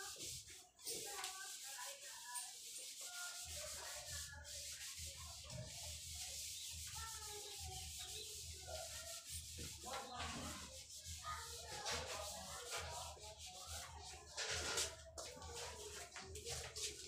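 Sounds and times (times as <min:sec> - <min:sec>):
eraser scrubbing whiteboard: 0:00.0 - 0:17.0.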